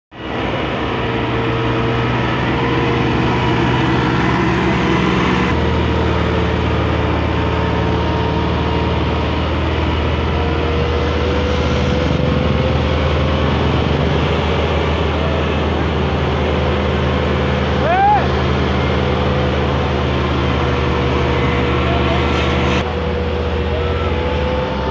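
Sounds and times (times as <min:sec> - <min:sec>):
tractor diesel engine under load: 0:00.1 - 0:24.9.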